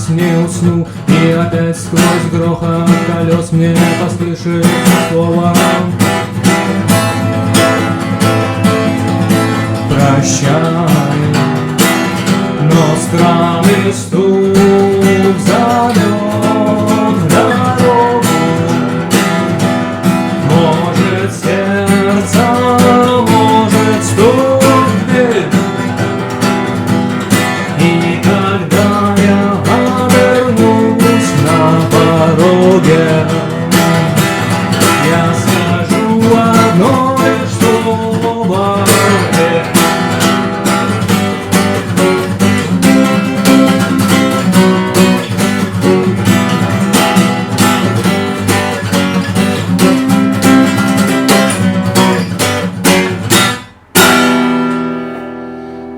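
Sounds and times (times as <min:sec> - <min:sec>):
acoustic guitar strumming: 0:00.0 - 0:55.9.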